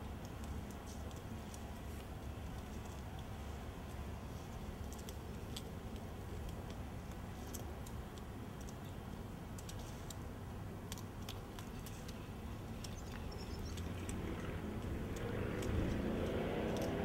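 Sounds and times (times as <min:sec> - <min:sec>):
chickens pecking and tearing greens: 0:00.0 - 0:17.0
low steady rumble: 0:00.0 - 0:17.0.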